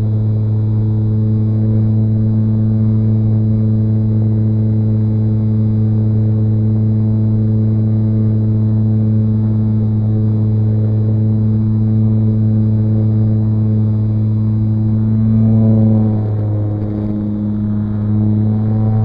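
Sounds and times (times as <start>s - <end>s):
model plane motor droning: 0.0s - 19.0s.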